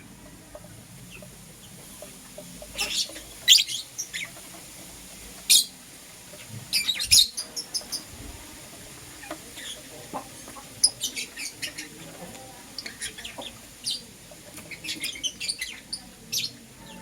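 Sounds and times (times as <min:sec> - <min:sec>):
lovebirds chirping: 0:00.0 - 0:17.0.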